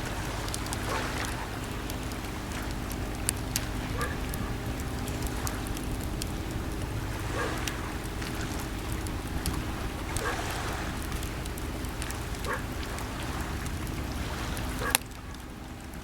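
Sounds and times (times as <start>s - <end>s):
campfire crackling and popping: 0.0s - 16.0s
sea waves: 0.0s - 16.0s.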